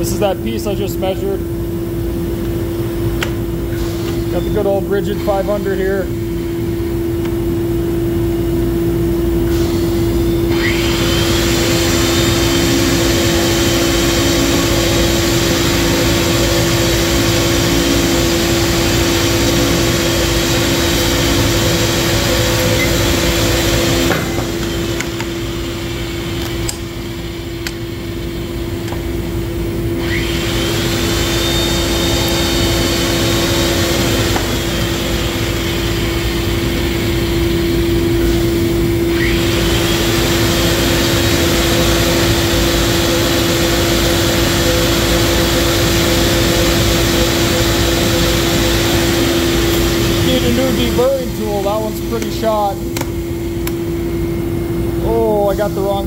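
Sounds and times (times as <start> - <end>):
steady equipment hum: 0.0 - 56.0
pipe threading machine motor: 8.9 - 54.0.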